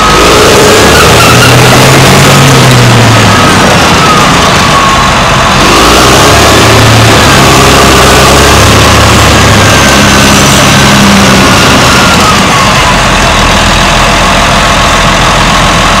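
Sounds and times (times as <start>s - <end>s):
short falling whine: 0.0s - 14.2s
bulldozer diesel engine running: 0.0s - 16.0s.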